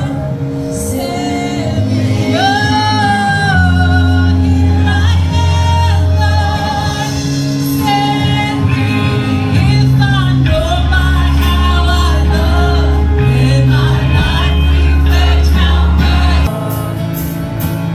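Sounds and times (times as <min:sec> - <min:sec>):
held bass notes: 0:00.0 - 0:17.9
worship band playing: 0:00.0 - 0:17.9.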